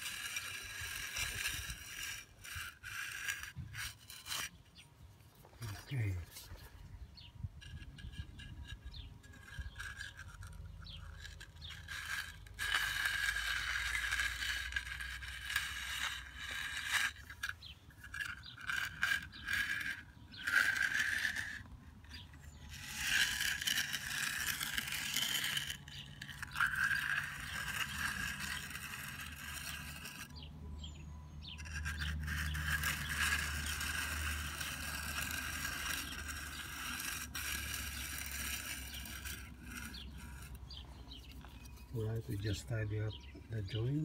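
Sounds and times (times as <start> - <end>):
steel tool scraping concrete: 0.0 - 44.0.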